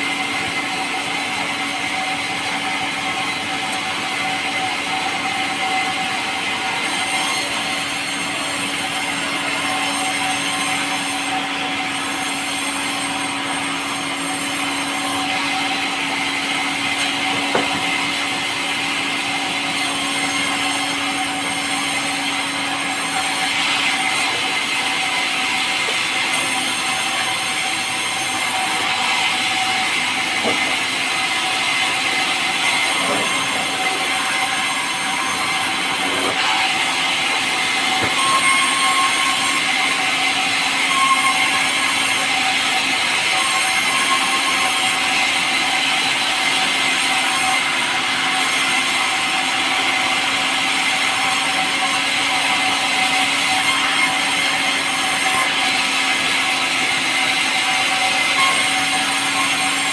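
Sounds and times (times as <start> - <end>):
power saw cutting timber: 0.0 - 59.9.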